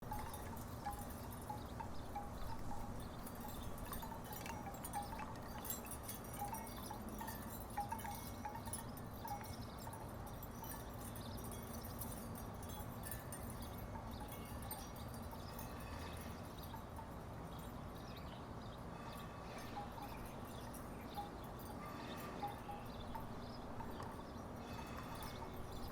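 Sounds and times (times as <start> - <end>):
wooden wind chimes knocking: 0.0 - 17.2, 19.6 - 25.9.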